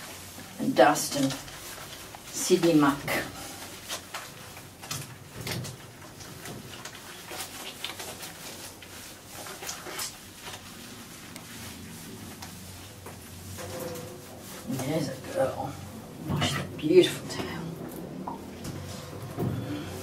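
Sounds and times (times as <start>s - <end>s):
hands rubbing wet fur: 0.0s - 19.3s.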